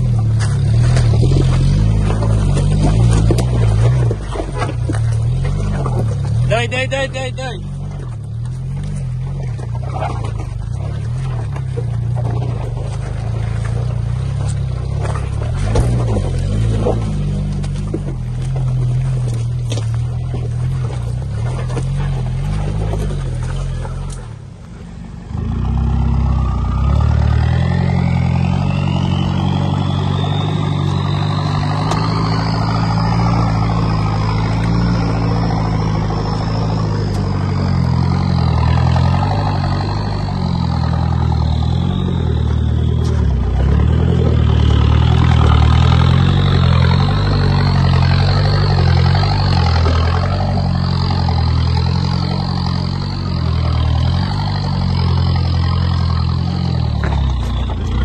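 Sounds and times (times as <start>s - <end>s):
engine running at low revs: 0.0s - 58.0s
high whine: 0.0s - 58.0s.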